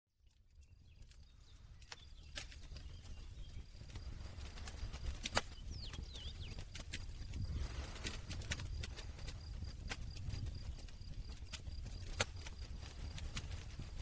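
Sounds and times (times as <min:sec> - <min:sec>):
campfire crackling: 0:00.2 - 0:14.0.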